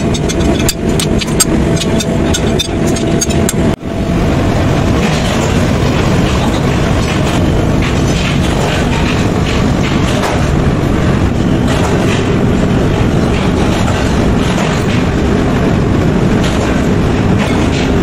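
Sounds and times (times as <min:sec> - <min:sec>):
workshop machinery rumbling: 0:00.0 - 0:18.0.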